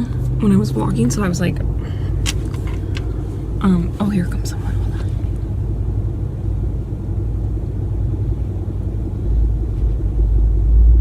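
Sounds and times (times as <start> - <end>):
car idling rumble: 0.0 - 11.0.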